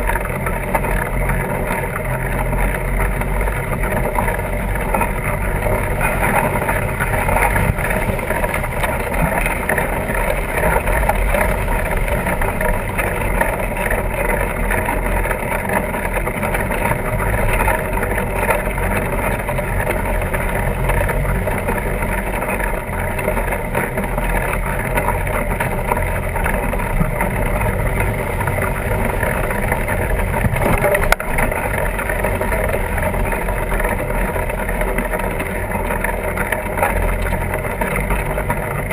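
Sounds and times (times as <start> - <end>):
bike tires rolling: 0.0 - 38.9.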